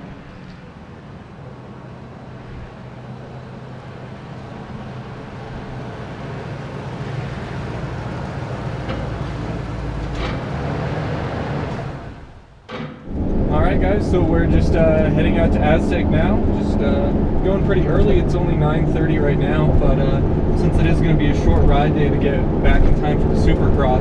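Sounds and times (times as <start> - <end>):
low engine hum: 0.0 - 24.0
road noise: 0.0 - 24.0.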